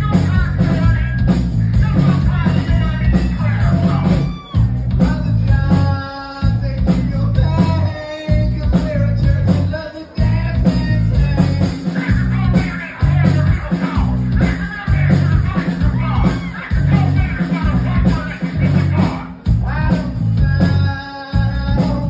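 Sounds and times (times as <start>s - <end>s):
person singing: 0.0s - 22.0s
rock band playing: 0.0s - 22.0s.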